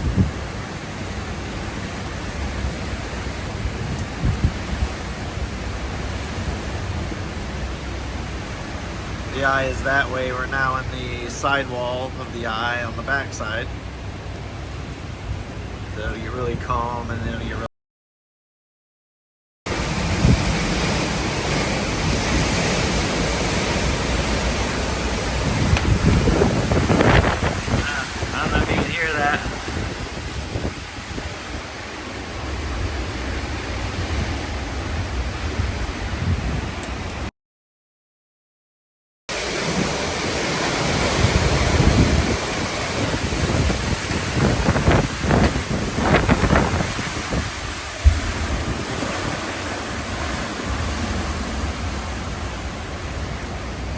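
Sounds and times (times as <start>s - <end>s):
rain: 0.0s - 17.6s, 19.7s - 37.3s, 39.3s - 53.9s
wind buffeting microphone: 0.0s - 17.6s, 19.8s - 37.3s, 39.6s - 53.9s
strong wind blowing: 0.0s - 17.7s, 19.7s - 37.3s, 39.6s - 53.9s.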